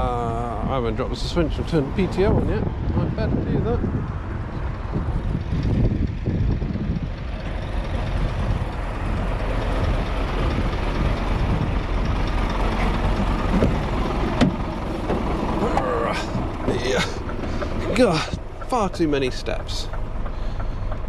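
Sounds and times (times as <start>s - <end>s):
diesel truck engine idling: 0.0s - 21.0s.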